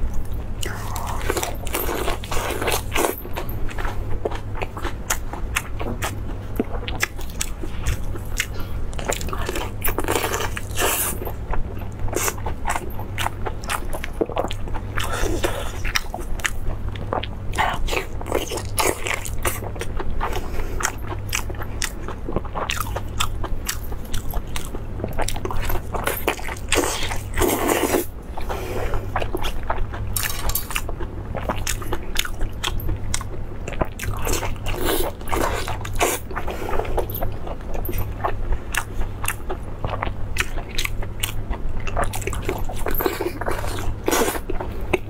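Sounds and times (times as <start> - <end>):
biting and chewing: 0.0 - 45.0.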